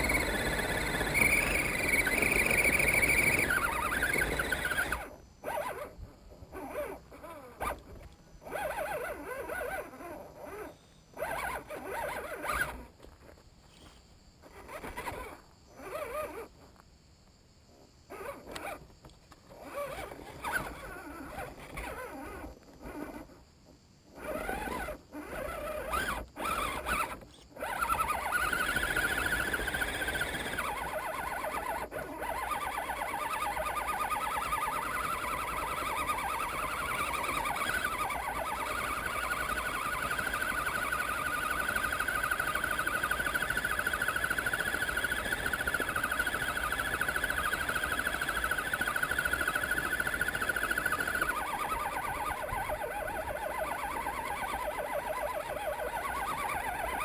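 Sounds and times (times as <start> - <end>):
electric motor whining: 0.0 - 16.6, 19.5 - 23.4, 24.1 - 57.0.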